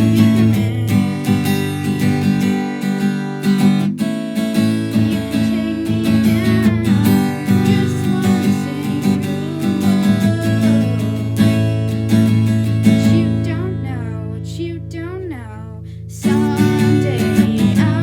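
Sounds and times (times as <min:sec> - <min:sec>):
song with strummed acoustic guitar: 0:00.0 - 0:18.0.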